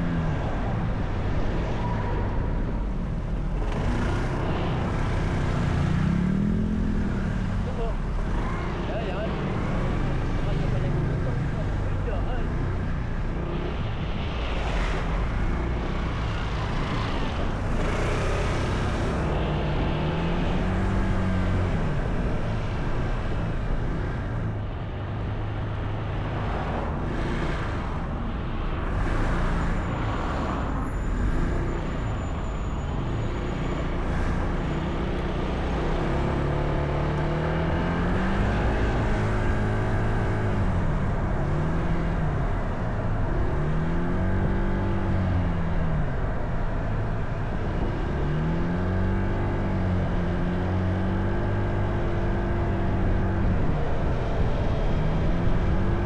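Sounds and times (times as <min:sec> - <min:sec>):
road and wind noise: 0:00.0 - 0:56.0
traffic passing: 0:00.0 - 0:56.0.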